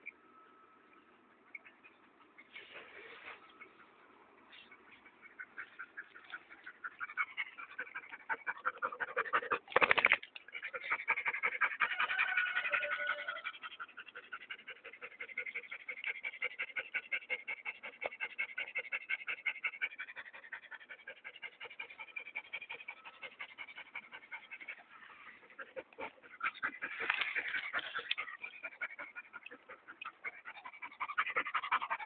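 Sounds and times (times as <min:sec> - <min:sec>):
small dog panting: 0:01.6 - 0:32.0.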